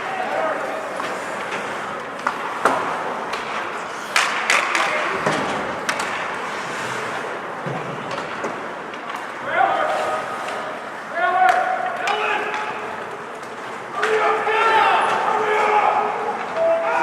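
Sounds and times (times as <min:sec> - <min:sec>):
rink crowd hubbub: 0:00.0 - 0:17.0
sticks and puck clacking: 0:00.0 - 0:17.0
skates scraping on ice: 0:00.2 - 0:16.5.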